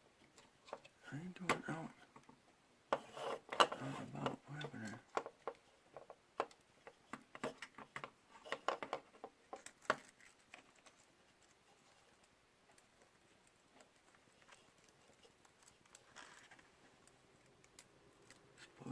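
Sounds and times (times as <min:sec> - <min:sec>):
small parts clicking and tapping: 0:00.2 - 0:18.9.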